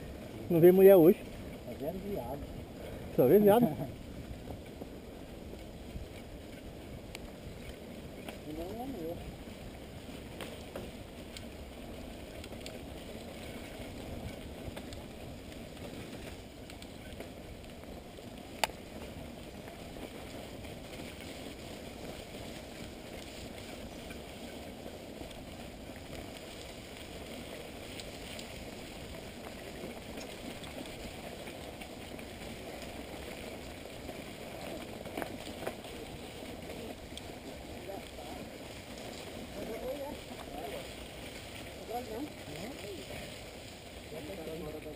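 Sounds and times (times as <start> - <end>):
bike rattling: 0.0 - 44.9
bike tyres rumbling on dirt trail: 0.0 - 44.9.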